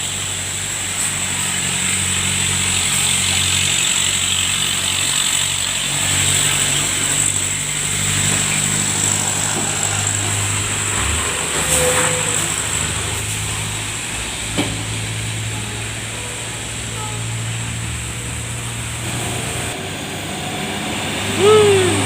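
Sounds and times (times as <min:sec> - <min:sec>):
large vehicle engine droning: 0:00.0 - 0:22.0
road noise: 0:00.0 - 0:22.0.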